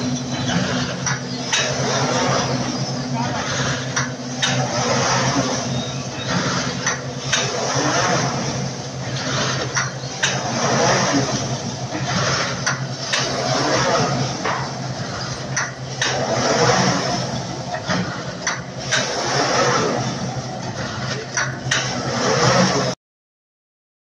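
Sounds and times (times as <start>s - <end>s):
motor hum: 0.0s - 23.0s
rotary knives whirring: 0.0s - 23.0s.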